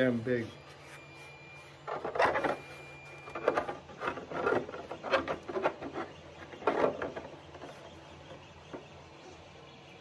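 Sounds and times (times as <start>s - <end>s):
plastic helmet rubbing and knocking: 0.8s - 9.0s.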